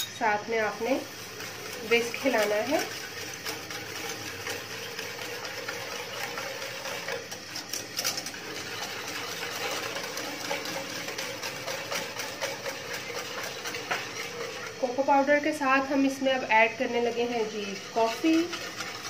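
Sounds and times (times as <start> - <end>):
whisk rattling against a pan: 0.0 - 19.0.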